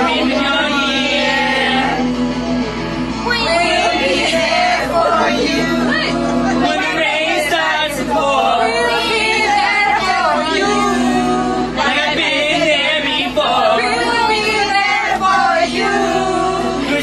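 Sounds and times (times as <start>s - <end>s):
group of people singing: 0.0s - 2.3s, 3.1s - 17.0s.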